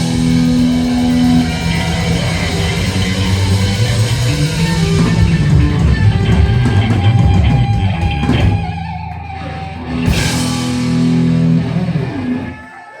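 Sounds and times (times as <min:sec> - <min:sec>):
cymbal crash: 0:00.0 - 0:12.3
heavy metal band playing live: 0:00.0 - 0:13.0.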